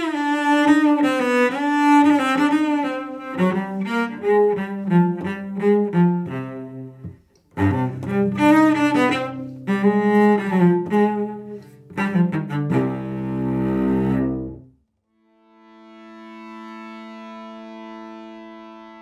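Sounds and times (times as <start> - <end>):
bowed cello melody: 0.0 - 19.0.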